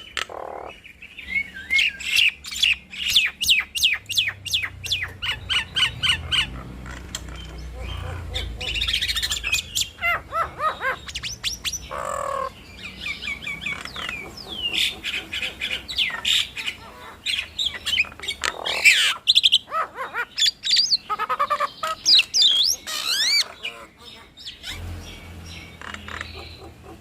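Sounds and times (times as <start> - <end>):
birds whistling and squawking: 0.0 - 27.0.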